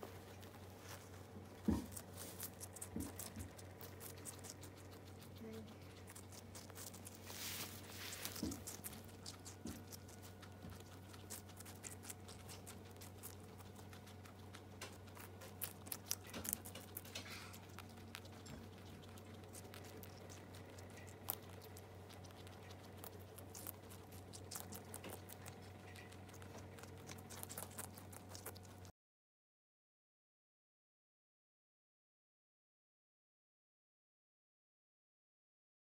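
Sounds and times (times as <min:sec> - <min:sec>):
guinea pigs chewing watermelon: 0:00.0 - 0:28.9
steady low hum: 0:00.0 - 0:28.9.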